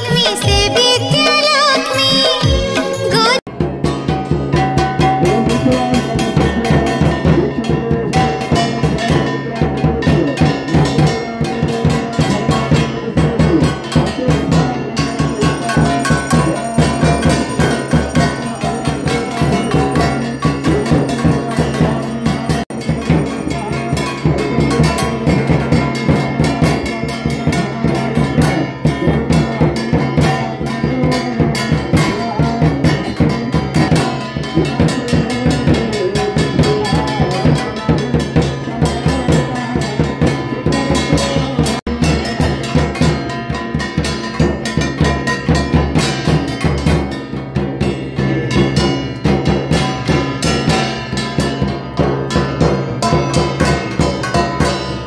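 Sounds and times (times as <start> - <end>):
frame drums beaten with sticks: 0.0 - 55.0
ringing metallic tones: 0.0 - 55.0
steady held notes: 0.0 - 55.0
bass drum: 3.5 - 55.0.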